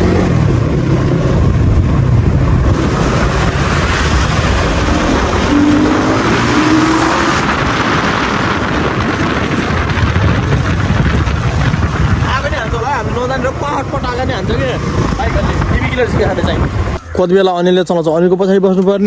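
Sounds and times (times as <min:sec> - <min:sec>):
dirt bike engine running: 0:00.0 - 0:17.0
wind on microphone: 0:00.0 - 0:17.0.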